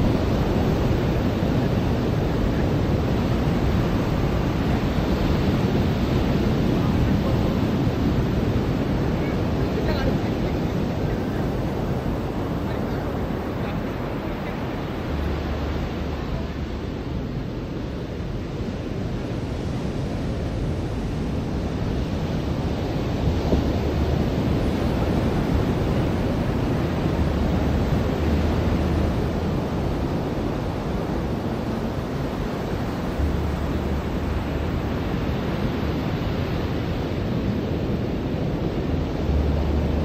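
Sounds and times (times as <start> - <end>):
ocean surf washing onto beach: 0.0 - 40.0
wind buffeting microphone: 0.0 - 40.0.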